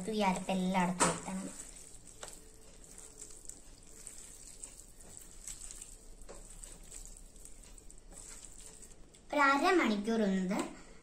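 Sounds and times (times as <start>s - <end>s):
wet squelching of kneading: 0.0s - 9.4s.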